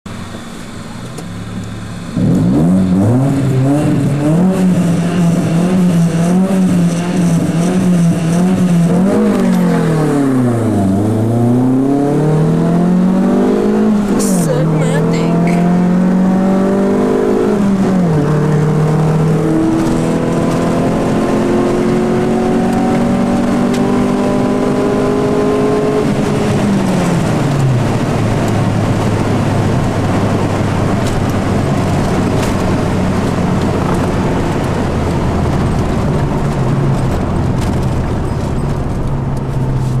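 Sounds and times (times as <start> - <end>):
car engine accelerating: 0.1 - 40.0
wind and road noise: 0.1 - 40.0.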